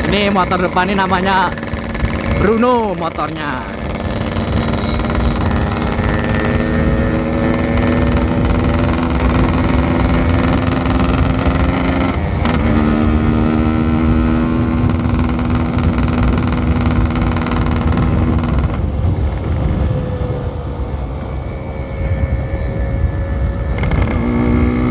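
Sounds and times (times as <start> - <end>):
two-stroke motorcycle engine running: 0.0 - 24.9.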